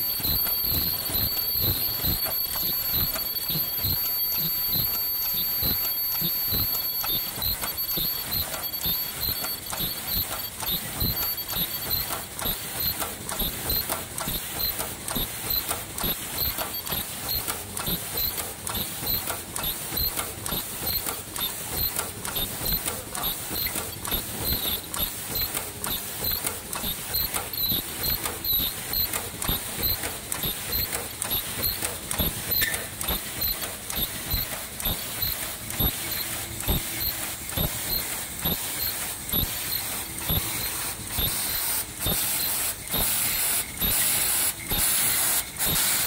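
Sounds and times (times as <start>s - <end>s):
machine clattering: 0.1s - 45.1s.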